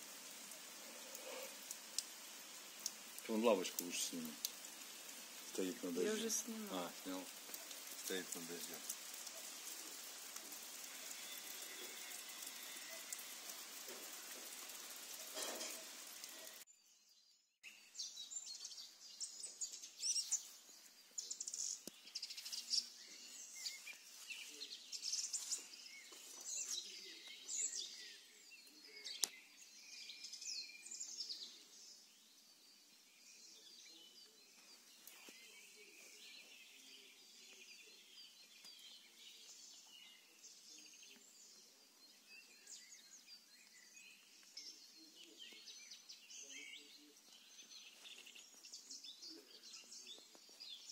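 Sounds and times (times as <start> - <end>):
songbirds singing and chirping: 0.0 - 50.9.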